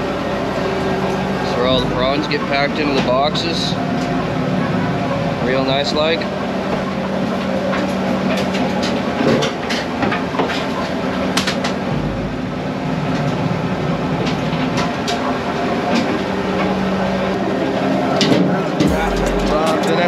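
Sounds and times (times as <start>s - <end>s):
boat engine droning: 0.0s - 9.2s, 10.8s - 18.2s.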